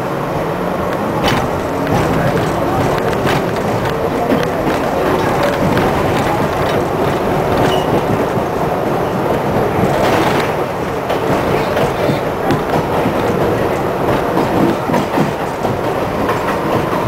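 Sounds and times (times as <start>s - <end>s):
train wheels running on rails: 0.0s - 17.0s.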